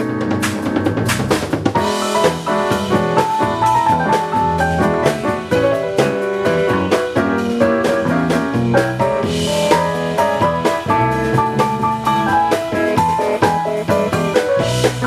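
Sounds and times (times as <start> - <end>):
drum kit beat: 0.0 - 15.0
live band playing instrumental: 0.0 - 15.0.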